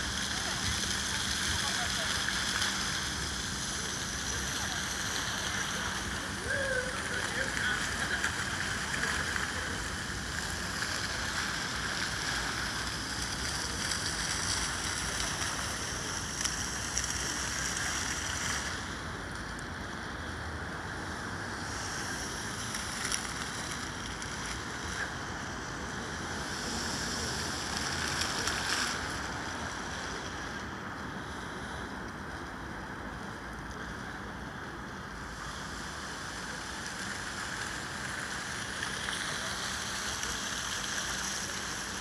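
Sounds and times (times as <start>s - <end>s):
fountain jets splashing into pool: 0.0s - 42.0s.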